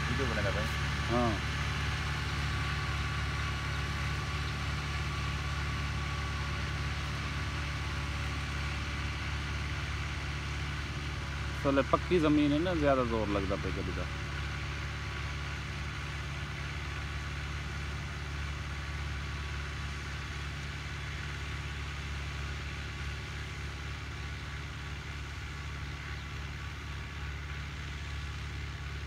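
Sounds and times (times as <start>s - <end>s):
diesel tractor engine running: 0.0s - 29.0s.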